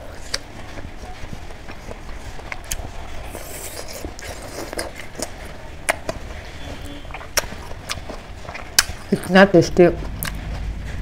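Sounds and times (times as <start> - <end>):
person chewing: 0.0 - 9.4, 10.0 - 10.6.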